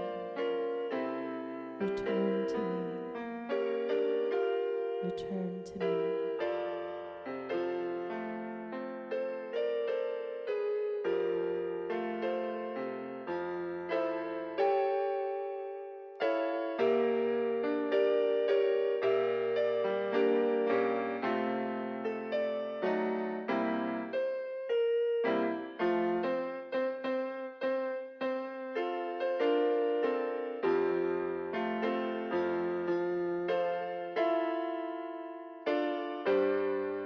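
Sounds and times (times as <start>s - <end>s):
piano-like keyboard chords: 0.0s - 37.0s.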